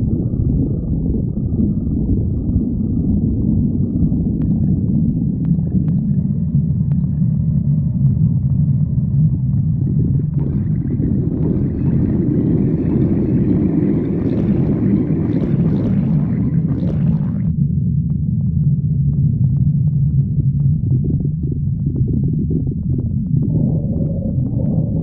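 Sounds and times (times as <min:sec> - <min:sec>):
stomach growling: 0:00.0 - 0:25.0.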